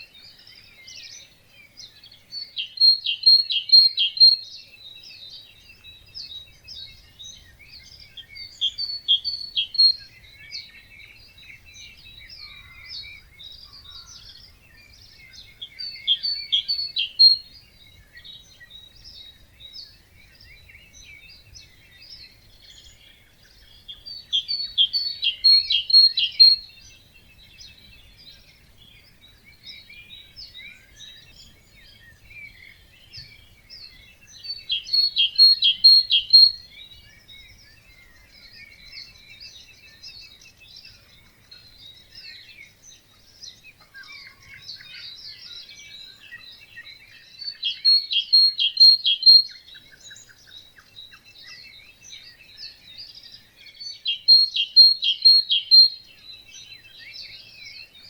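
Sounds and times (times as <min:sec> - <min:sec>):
birds singing quietly: 0:00.0 - 0:58.0.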